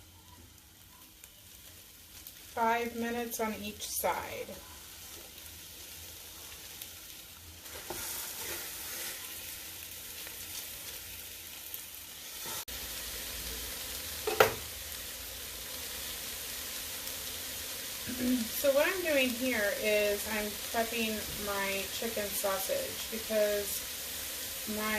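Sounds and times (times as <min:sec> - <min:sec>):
chicken sizzling in a pan: 0:00.0 - 0:24.9.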